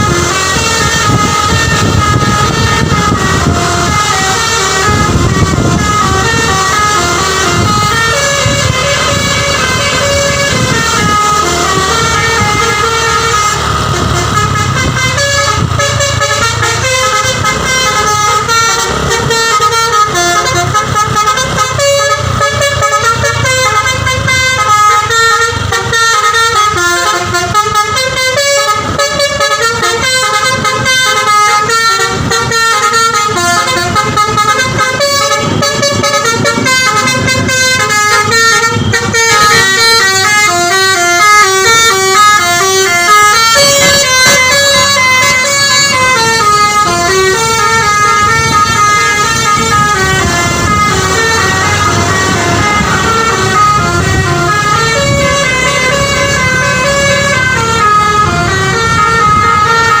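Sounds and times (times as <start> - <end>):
bus engine running low: 0.0 - 60.0
multi-tone bus horn tune: 0.0 - 60.0.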